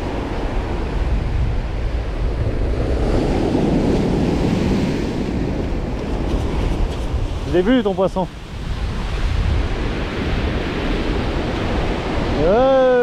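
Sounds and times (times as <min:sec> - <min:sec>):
ocean surf breaking on beach: 0:00.0 - 0:13.0
wind rumble on microphone: 0:00.0 - 0:13.0.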